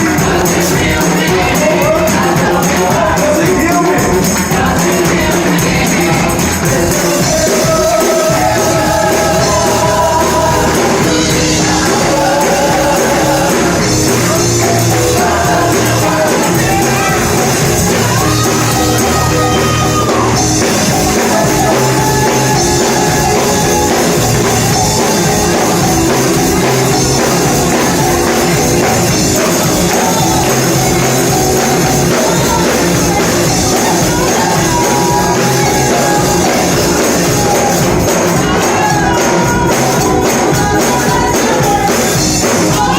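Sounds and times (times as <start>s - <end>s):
tambourine shaking: 0.0s - 42.9s
voices singing over a band: 0.0s - 42.9s.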